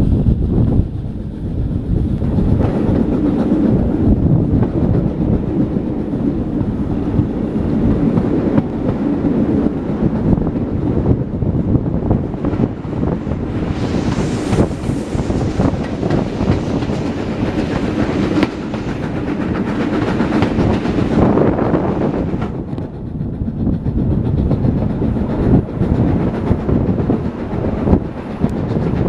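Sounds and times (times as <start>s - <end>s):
steam locomotives working: 0.0s - 29.0s
wind rushing past: 0.0s - 29.0s
train wheels clattering over rail joints: 0.9s - 13.4s, 14.0s - 29.0s.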